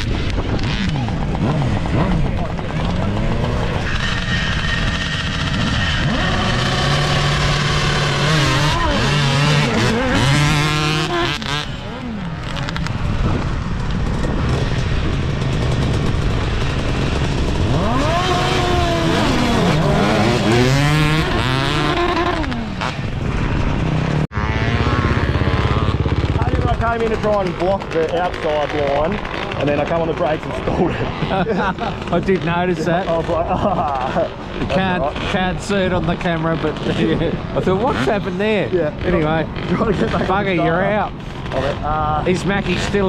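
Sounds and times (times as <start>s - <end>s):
off-road motorcycle engines revving: 0.0s - 43.0s.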